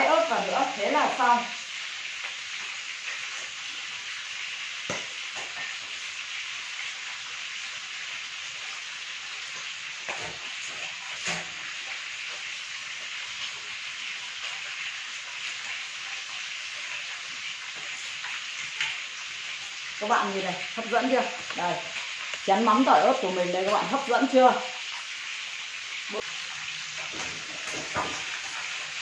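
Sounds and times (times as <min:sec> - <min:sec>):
oil sizzling in frying pan: 0:00.0 - 0:29.0.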